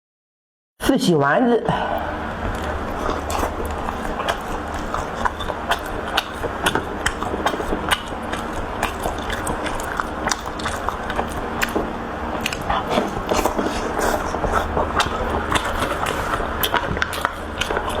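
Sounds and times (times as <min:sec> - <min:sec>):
person chewing food: 0:02.0 - 0:18.0
wet mouth clicks: 0:02.4 - 0:18.0.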